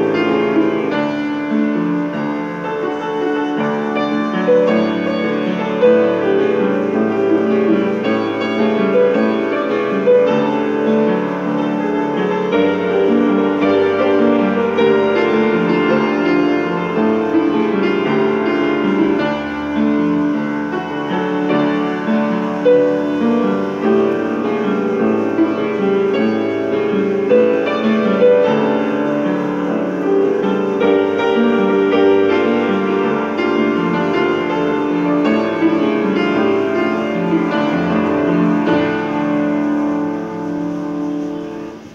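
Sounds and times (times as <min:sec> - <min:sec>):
solo piano: 0:00.0 - 0:41.9.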